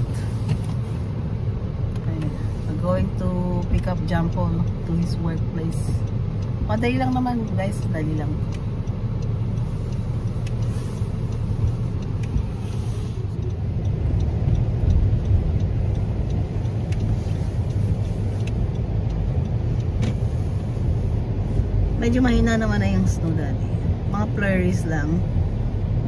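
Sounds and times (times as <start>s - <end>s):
car interior engine and road rumble: 0.0s - 26.0s.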